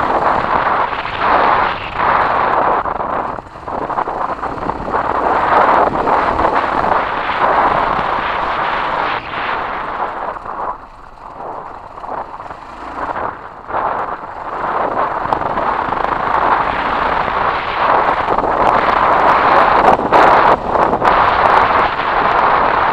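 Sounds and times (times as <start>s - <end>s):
motorcycle engine running: 0.0s - 22.9s
wind rush on microphone: 0.0s - 22.9s.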